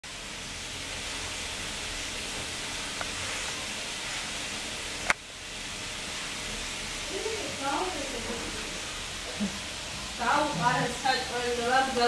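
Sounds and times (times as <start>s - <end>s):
steady background hiss: 0.1s - 12.0s.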